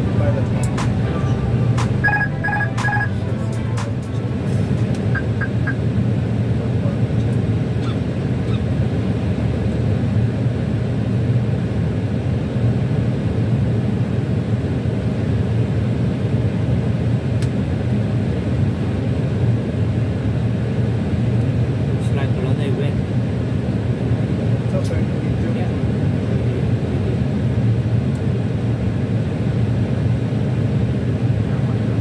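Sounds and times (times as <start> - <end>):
low rumble of airflow and engines: 0.0 - 32.0.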